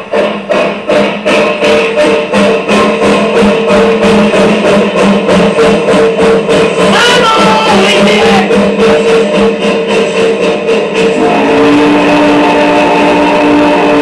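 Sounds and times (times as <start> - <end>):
background music with steady beat: 0.0 - 14.0
long held tones: 1.3 - 14.0.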